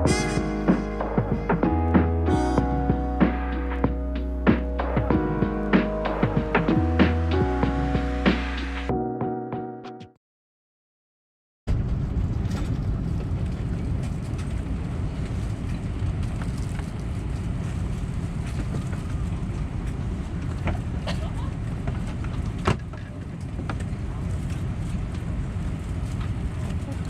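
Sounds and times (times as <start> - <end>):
airplane cabin low rumble: 0.0 - 8.8, 11.7 - 27.0.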